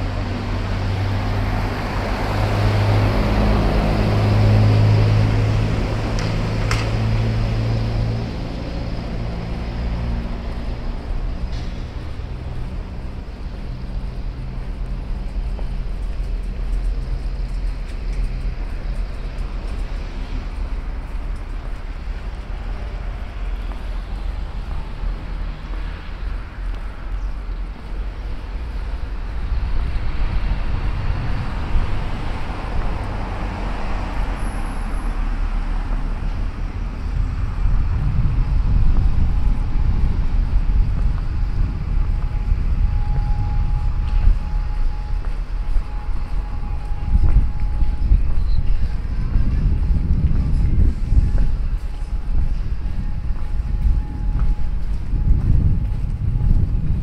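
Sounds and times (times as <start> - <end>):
engine hum: 0.0 - 57.0
traffic rumble: 0.0 - 57.0.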